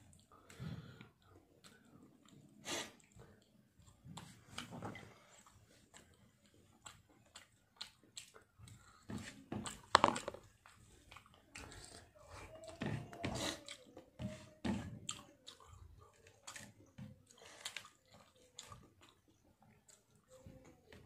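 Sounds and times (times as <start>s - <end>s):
chewing and mouth smacks: 0.0s - 21.0s.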